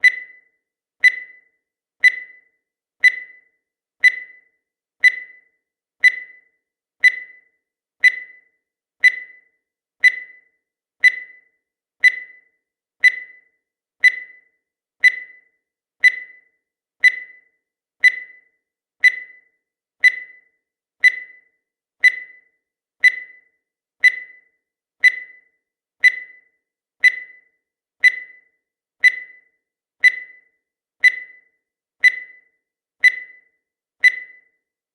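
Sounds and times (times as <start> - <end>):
short high-pitched beeps: 0.0 - 34.7.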